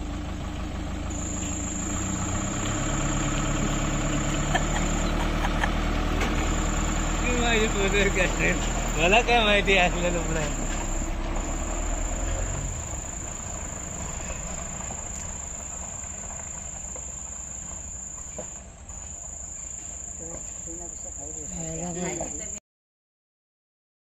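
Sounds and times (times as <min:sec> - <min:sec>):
vehicle engine rumble: 0:00.0 - 0:22.6
night insects trilling: 0:01.1 - 0:22.6.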